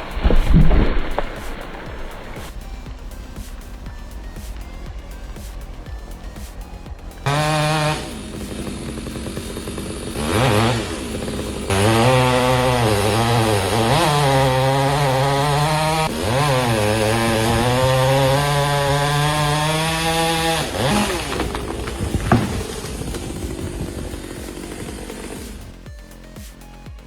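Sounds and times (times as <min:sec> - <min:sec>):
chainsaw engine revving: 0:03.4 - 0:25.9.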